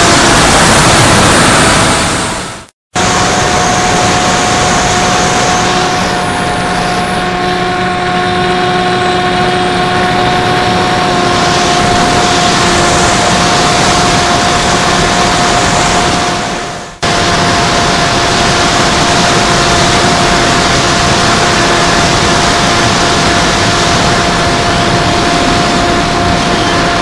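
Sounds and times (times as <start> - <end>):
electric motor whine: 0.0 - 27.0
wind rush: 0.0 - 27.0.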